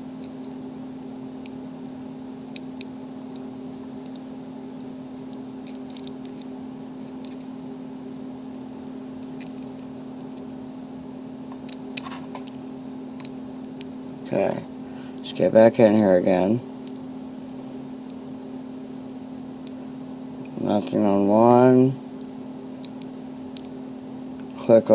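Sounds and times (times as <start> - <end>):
background hum: 0.0 - 24.9.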